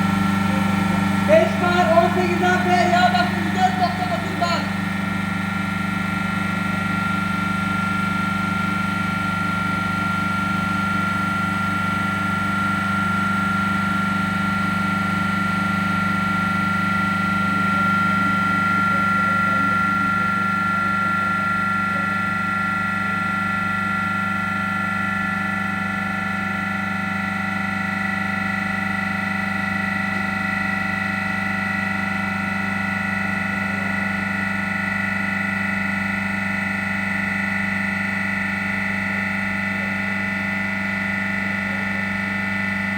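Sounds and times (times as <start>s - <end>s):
compressor hum: 0.0s - 42.9s
high compressor whine: 0.0s - 42.9s.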